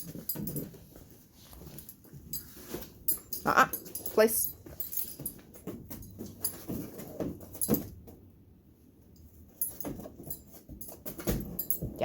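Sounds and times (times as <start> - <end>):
collar tags jingling: 0.0 - 8.1, 9.1 - 12.0.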